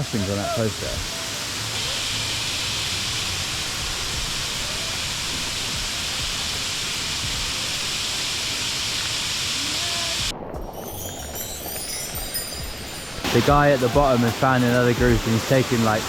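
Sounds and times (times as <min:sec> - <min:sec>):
falling water rushing: 0:00.0 - 0:16.0.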